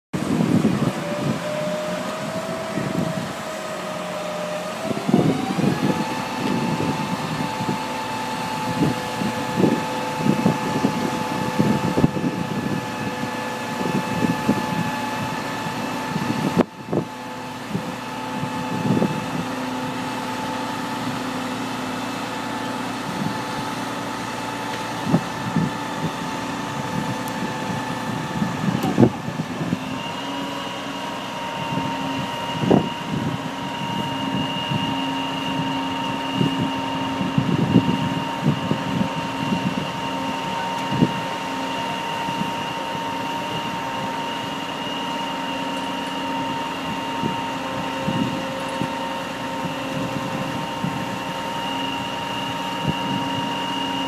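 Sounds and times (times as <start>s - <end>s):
crane engine whine: 0.2s - 54.0s.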